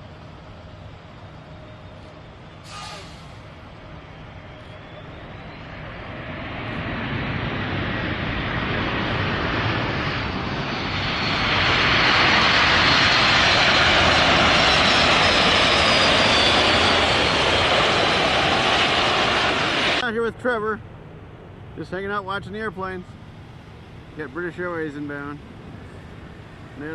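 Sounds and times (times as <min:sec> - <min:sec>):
high engine whine: 0:00.0 - 0:26.9
jet engines rushing: 0:00.0 - 0:26.9.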